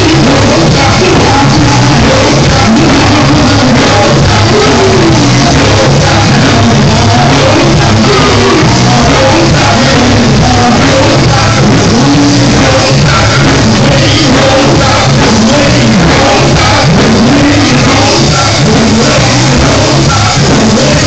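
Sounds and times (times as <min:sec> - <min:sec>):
gospel quartet singing with band: 0:00.0 - 0:21.0.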